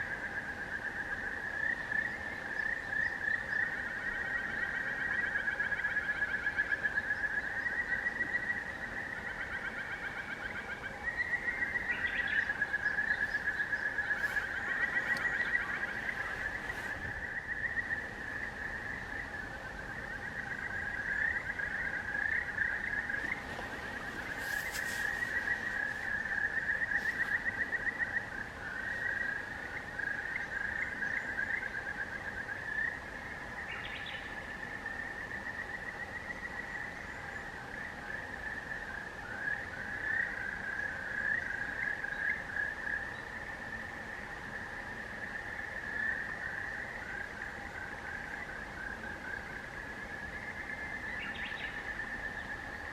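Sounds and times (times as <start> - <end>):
frogs trilling in chorus: 0.0 - 52.9.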